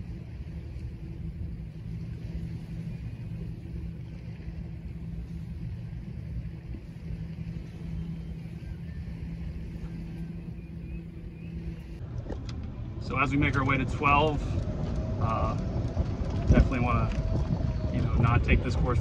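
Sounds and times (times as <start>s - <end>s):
engine hum: 0.0s - 19.0s
low rumble: 0.0s - 19.0s.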